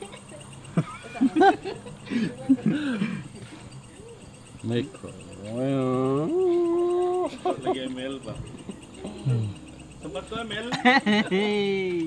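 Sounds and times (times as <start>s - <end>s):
crickets chirping: 0.0s - 12.0s
people talking and chuckling: 0.0s - 12.0s.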